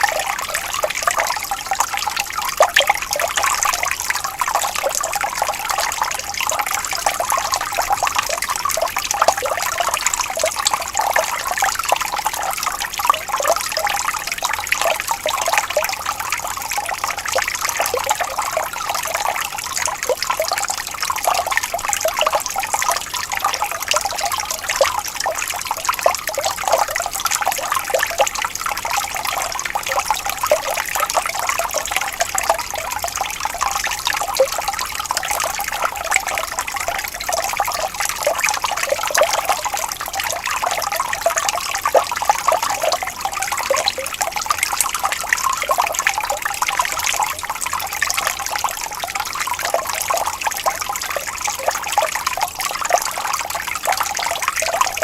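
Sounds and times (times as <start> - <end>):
water trickling over stones: 0.0 - 55.0.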